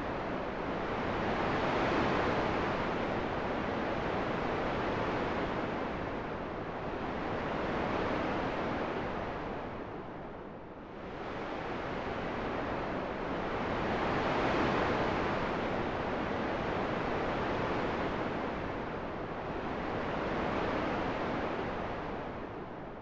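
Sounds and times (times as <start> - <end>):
wind blowing in gusts: 0.0 - 23.0.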